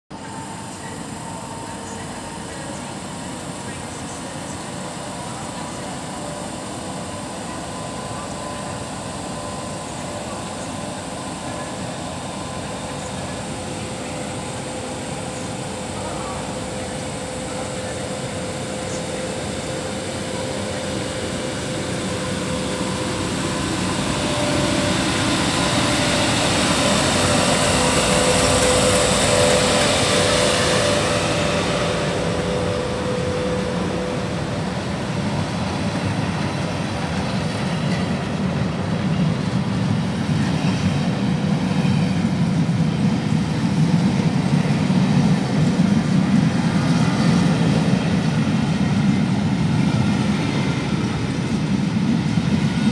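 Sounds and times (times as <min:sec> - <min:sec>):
coach wheels rumbling on rail: 0:00.1 - 0:52.9
electric locomotive hum and hiss: 0:00.1 - 0:52.9.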